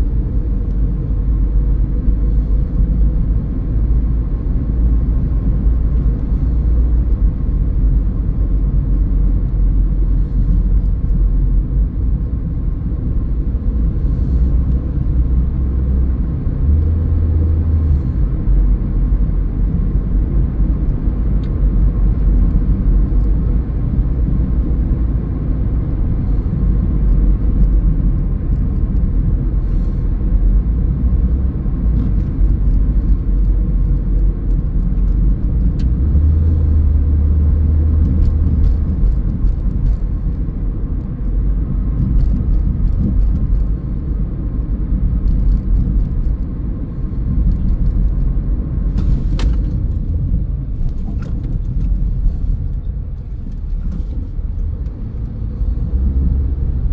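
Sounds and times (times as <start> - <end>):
car driving rumble: 0.0 - 56.9.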